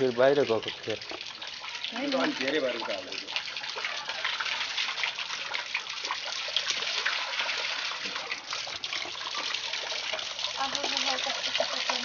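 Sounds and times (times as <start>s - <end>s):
water splashing into a pool: 0.0s - 12.0s.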